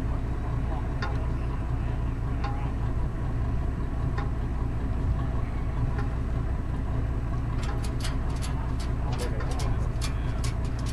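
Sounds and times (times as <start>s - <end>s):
engine idling: 0.0s - 10.9s.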